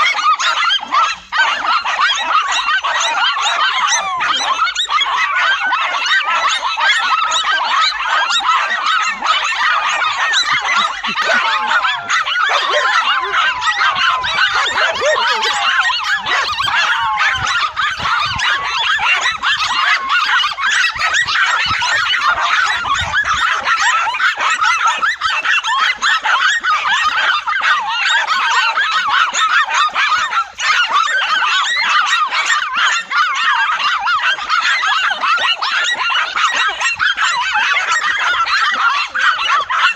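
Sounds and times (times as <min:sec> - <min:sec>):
many animals calling: 0:00.0 - 0:39.9.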